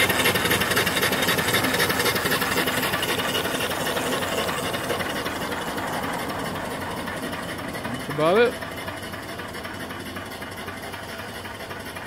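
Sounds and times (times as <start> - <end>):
steam engine exhaust chuffing: 0.0 - 12.0.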